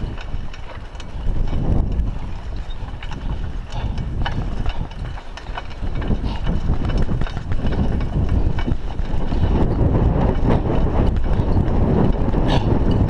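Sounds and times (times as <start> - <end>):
bike rattling and clicking: 0.0 - 13.0
bike tyre rumble on dirt: 0.0 - 13.0.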